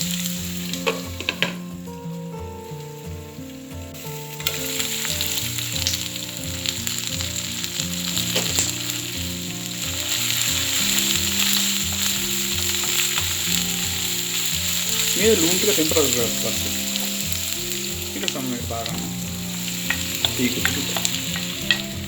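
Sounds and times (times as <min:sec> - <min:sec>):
background music: 0:00.0 - 0:22.0
food sizzling in hot oil: 0:00.0 - 0:22.0
stirring clicks: 0:00.0 - 0:22.0.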